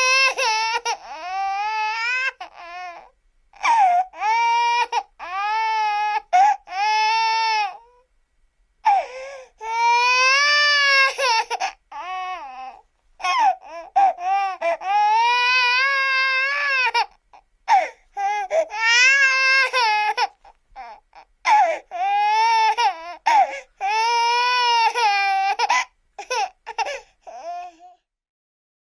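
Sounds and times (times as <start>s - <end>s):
baby crying: 0.0s - 8.0s, 8.8s - 28.0s.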